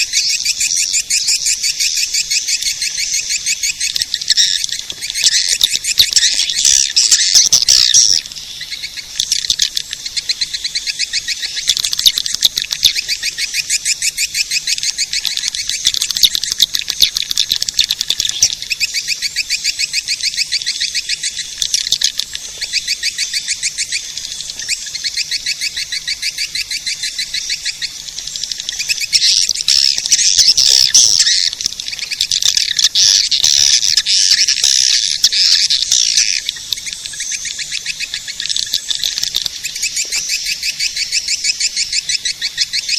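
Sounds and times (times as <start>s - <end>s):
swiftlet chirping trills: 0.0s - 42.9s.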